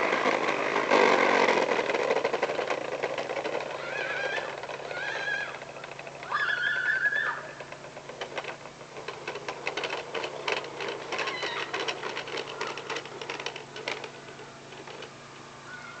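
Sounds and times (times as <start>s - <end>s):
toy lawnmower clattering: 0.0s - 16.0s.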